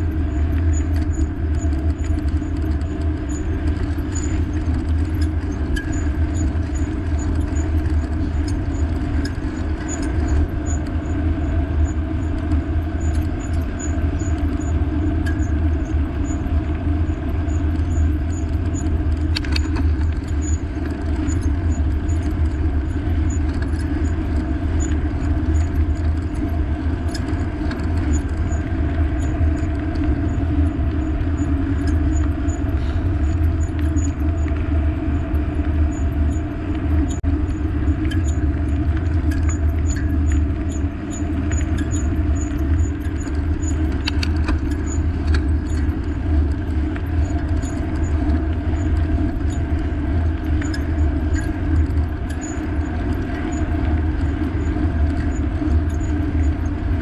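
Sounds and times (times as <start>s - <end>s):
bike road and wind noise: 0.0s - 57.0s.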